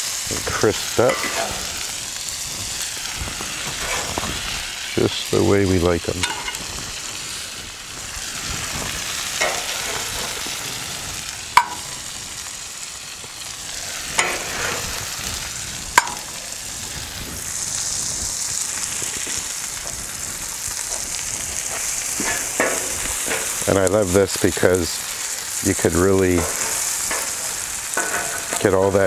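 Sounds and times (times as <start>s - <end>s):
burgers sizzling on a griddle: 0.0s - 29.0s.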